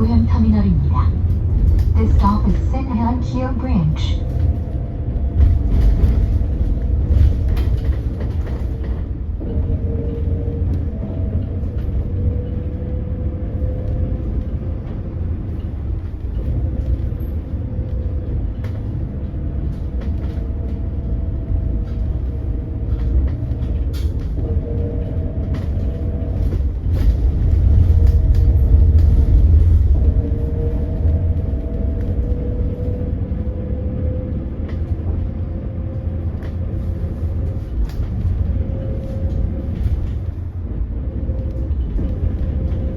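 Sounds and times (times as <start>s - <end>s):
low rumble: 0.0s - 42.9s.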